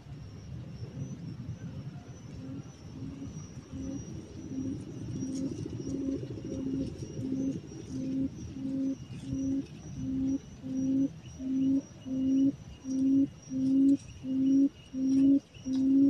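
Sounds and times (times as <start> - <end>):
faint high insect whine: 0.0 - 16.0
quail calling low hoots: 2.0 - 16.0.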